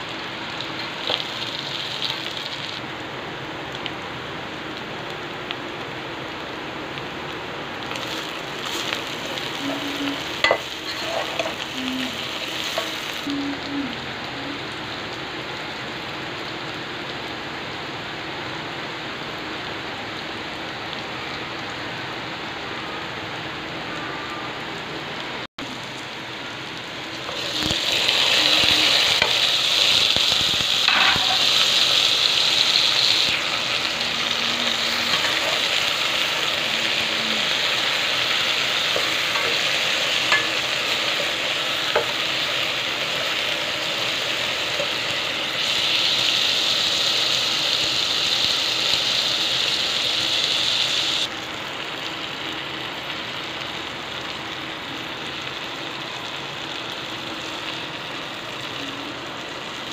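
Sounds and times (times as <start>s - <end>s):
vegetables sizzling in hot oil: 0.0s - 22.5s, 25.6s - 59.9s.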